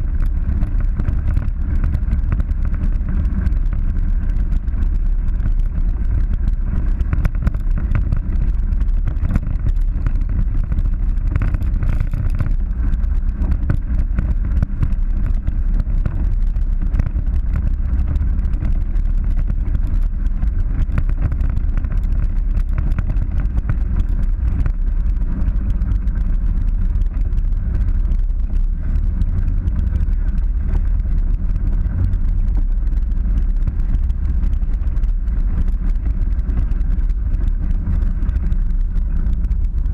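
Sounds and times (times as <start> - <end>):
rattle and clatter from rough ground: 0.0 - 39.9
vehicle engine drone: 0.0 - 39.9.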